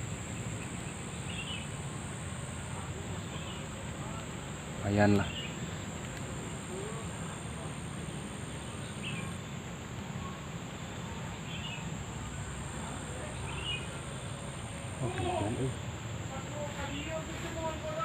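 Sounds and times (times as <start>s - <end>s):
insects trilling: 0.0s - 18.0s
low outdoor rumble: 0.0s - 18.0s.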